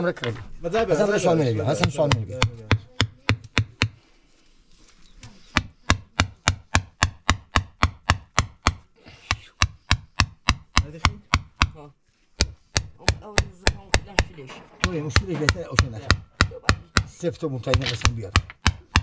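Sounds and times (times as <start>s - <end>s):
hammer tapping stones: 1.7s - 4.0s, 5.5s - 11.8s, 12.4s - 19.0s.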